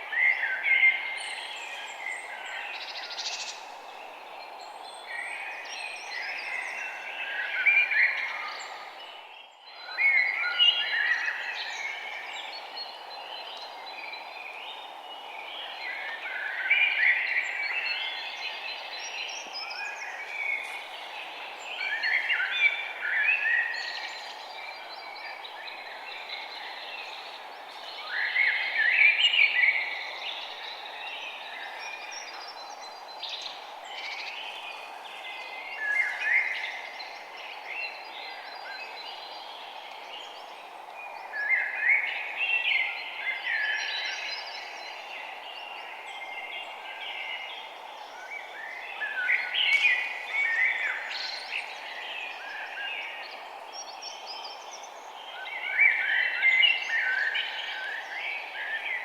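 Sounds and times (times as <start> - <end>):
songbirds chirping: 0.0 - 59.0
background hiss: 9.9 - 59.0.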